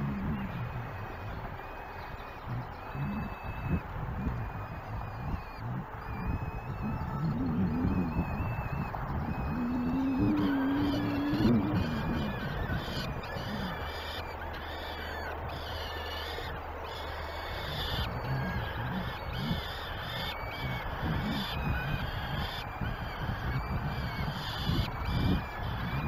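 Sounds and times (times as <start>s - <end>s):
falcon chicks crying: 0.0s - 26.0s.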